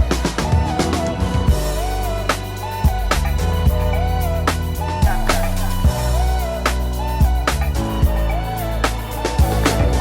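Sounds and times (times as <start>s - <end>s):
upbeat music with drum beat: 0.0s - 10.0s.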